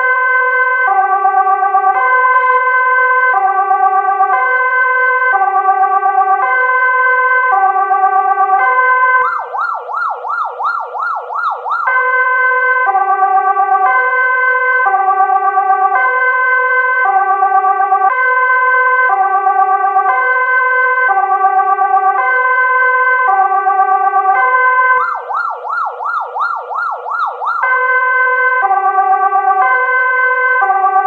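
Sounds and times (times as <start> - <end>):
ambulance siren: 0.0 - 31.0.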